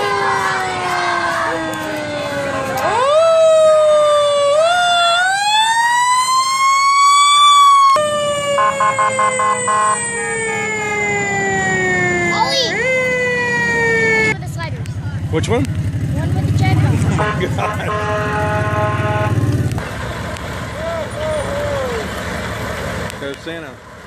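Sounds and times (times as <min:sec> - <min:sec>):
fire engine siren: 0:00.0 - 0:14.4, 0:17.1 - 0:22.7.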